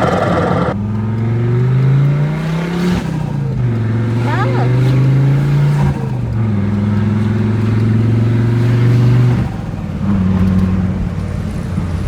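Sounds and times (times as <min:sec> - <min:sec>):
turbo car engine running: 0:00.0 - 0:12.0.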